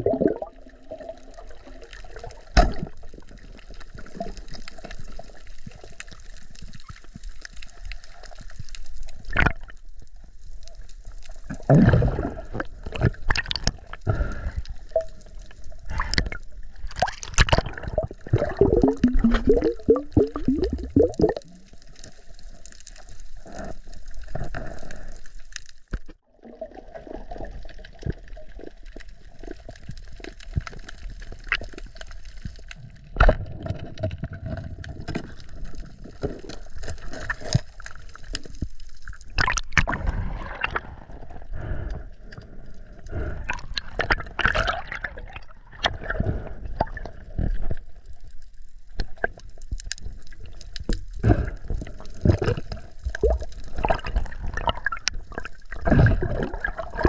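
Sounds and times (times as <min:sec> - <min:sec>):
water gurgling and sloshing: 0:00.0 - 0:25.0, 0:25.9 - 0:57.0.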